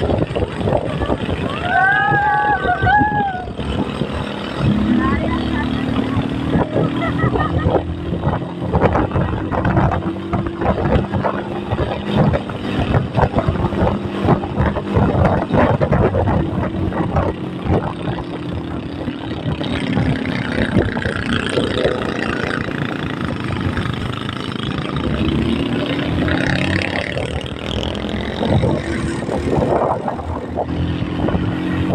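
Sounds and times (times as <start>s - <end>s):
vehicle engine running: 0.0s - 31.9s
wind and road rumble: 0.0s - 31.9s.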